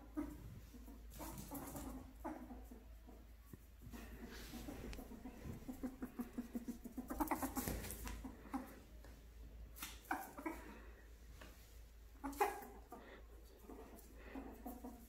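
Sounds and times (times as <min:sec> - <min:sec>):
ferret chuckling clucks: 0:00.0 - 0:08.9, 0:09.8 - 0:10.9, 0:12.1 - 0:15.0.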